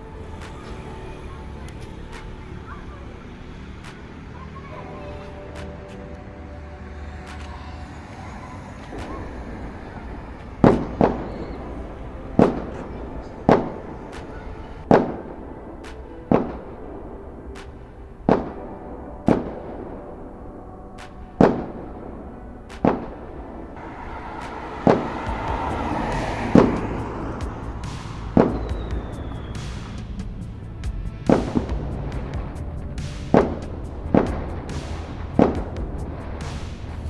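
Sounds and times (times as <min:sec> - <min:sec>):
fireworks exploding: 0:00.0 - 0:06.4, 0:07.2 - 0:37.0.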